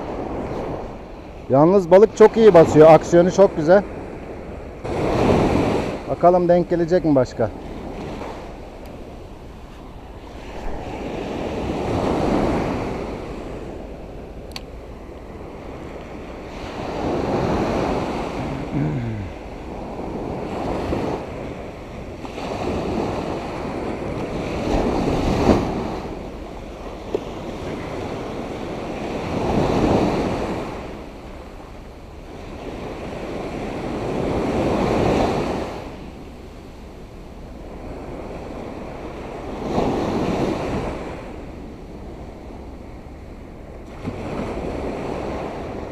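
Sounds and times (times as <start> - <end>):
small waves breaking on beach: 0.0 - 45.9.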